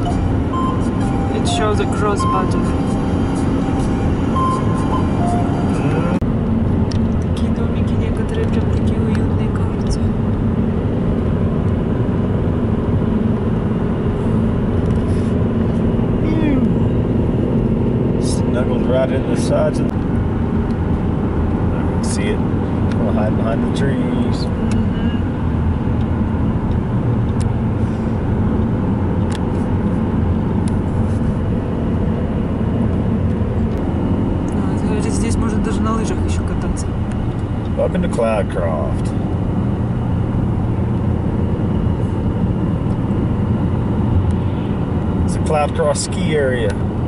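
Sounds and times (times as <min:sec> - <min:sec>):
car road and engine noise: 0:00.0 - 0:47.0.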